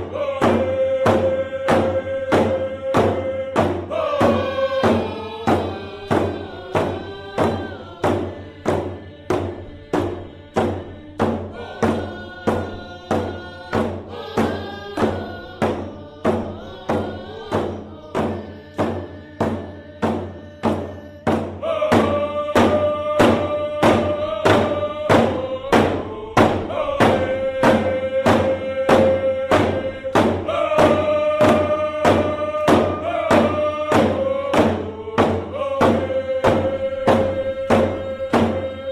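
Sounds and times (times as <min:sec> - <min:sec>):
steady drum beat: 0:00.0 - 0:38.9
voices singing a chant: 0:00.0 - 0:38.9.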